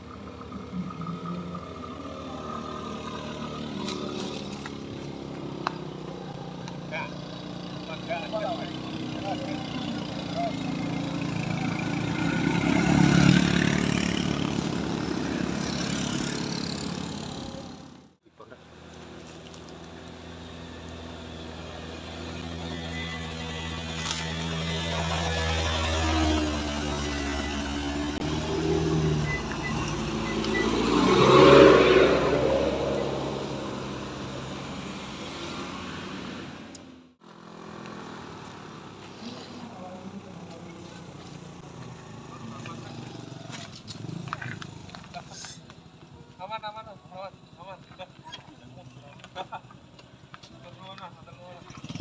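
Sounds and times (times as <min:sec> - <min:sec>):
scooter engine at high revs: 0:00.0 - 0:18.1, 0:20.3 - 0:45.4, 0:51.5 - 0:52.0.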